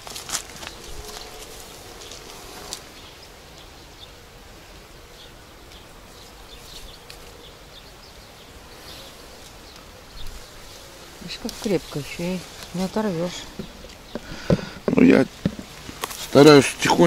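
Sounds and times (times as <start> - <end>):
insect buzzing: 0.0 - 17.0
leaves and twigs rustling: 0.0 - 17.0.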